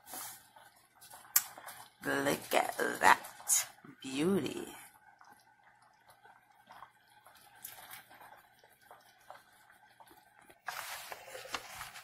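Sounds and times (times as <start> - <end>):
soup bubbling in a pot: 0.0 - 12.0.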